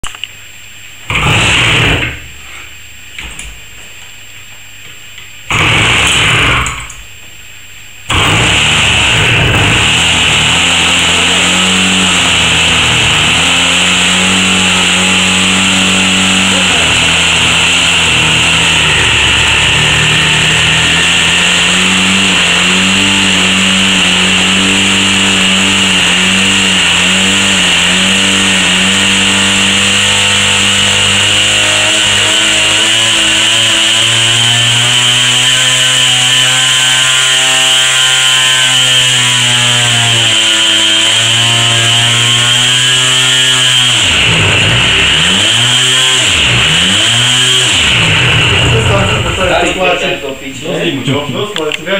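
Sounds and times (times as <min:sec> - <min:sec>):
model engine buzzing: 0:01.1 - 0:02.1, 0:05.5 - 0:06.9, 0:08.1 - 0:50.1.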